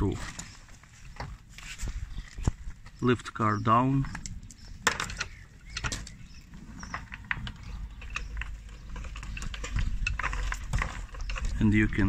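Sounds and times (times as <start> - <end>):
gravel crunching: 0.0 - 12.0.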